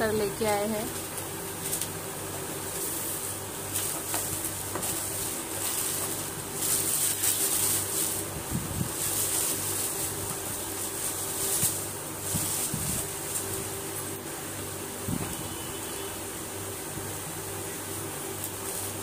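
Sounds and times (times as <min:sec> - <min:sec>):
steady background hum: 0:00.0 - 0:19.0
plastic wrapping rustling: 0:00.1 - 0:16.4, 0:18.0 - 0:19.0.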